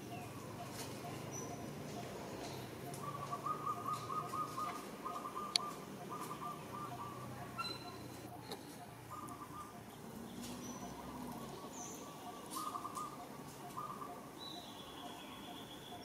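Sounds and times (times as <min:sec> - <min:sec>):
faint animal chirps: 0:02.9 - 0:16.0.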